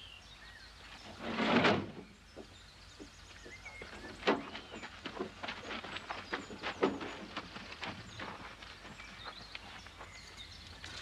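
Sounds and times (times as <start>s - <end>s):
birds chirping: 2.0s - 11.0s.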